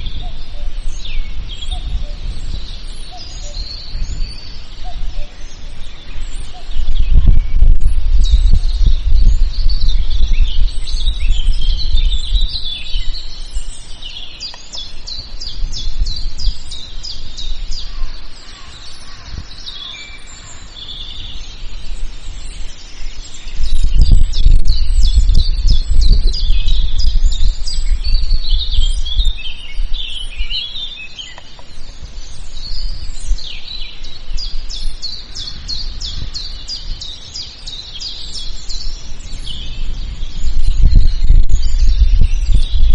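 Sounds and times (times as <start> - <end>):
birds singing and chirping: 0.0 - 42.9
low rumble of wind: 0.0 - 42.9.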